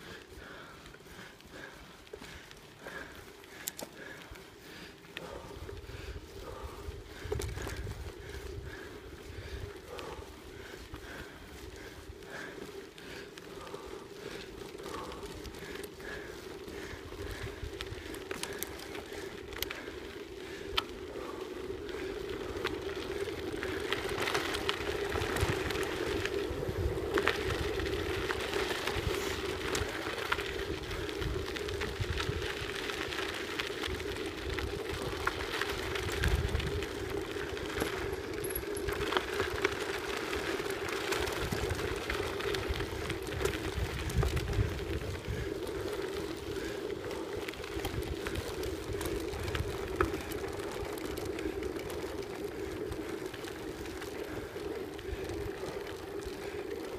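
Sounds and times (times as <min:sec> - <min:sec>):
bike tyres rolling over gravel: 0:00.0 - 0:56.9
wind rumbling on microphone: 0:05.2 - 0:56.9.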